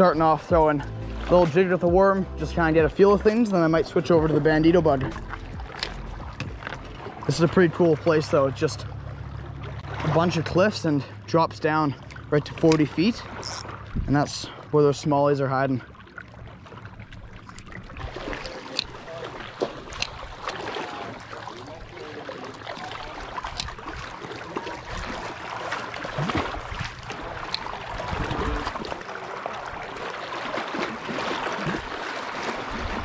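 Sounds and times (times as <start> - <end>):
water lapping and trickling: 0.0 - 33.0.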